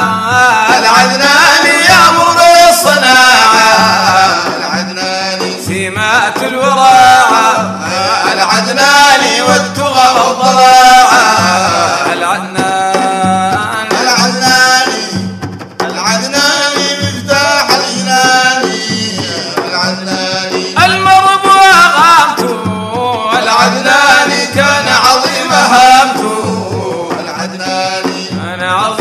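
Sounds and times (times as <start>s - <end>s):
men singing: 0.0s - 29.0s
steady drum beat: 0.0s - 29.0s.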